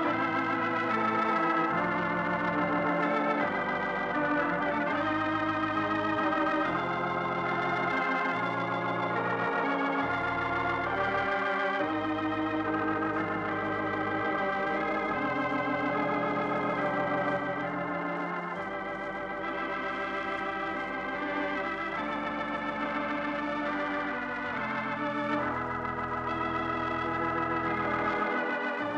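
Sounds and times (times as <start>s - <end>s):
organ chords with vibrato: 0.0s - 28.9s.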